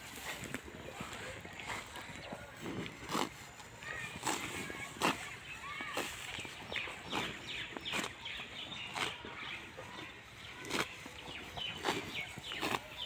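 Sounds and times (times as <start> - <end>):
buffalo ripping grass: 0.0 - 13.0
small birds chirping: 0.1 - 13.0.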